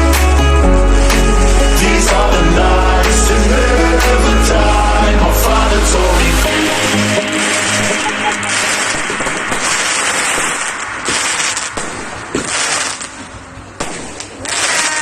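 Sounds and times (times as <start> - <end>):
fireworks crackling and bursting: 0.1 - 15.0.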